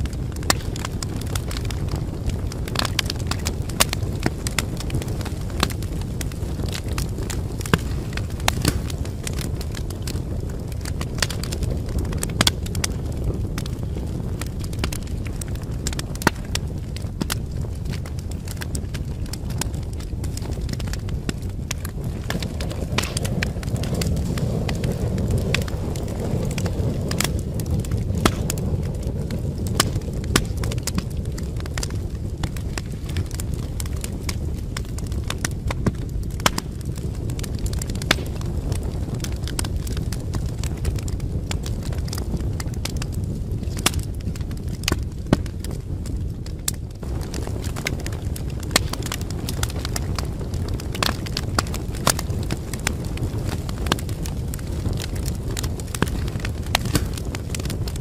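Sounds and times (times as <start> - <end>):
low rumble of storm wind: 0.0 - 58.0
wood fire crackling and popping: 0.0 - 58.0.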